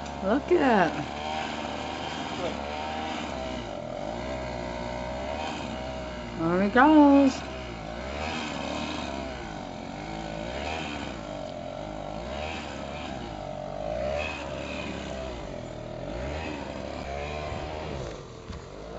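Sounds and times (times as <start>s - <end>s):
snow blower engine under load: 0.0s - 18.9s.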